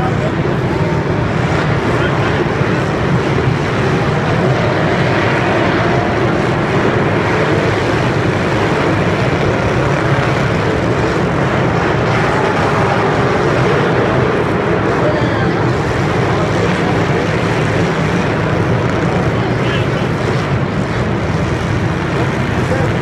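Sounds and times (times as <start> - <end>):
many car engines revving: 0.0 - 23.0.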